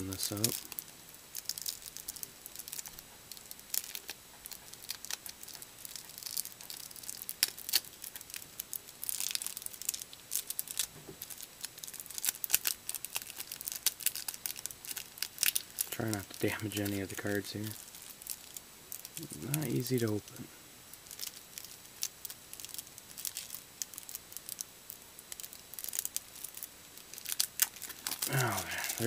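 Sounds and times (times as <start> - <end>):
plastic wrapper crinkling and tearing: 0.0 - 20.3, 20.9 - 29.0.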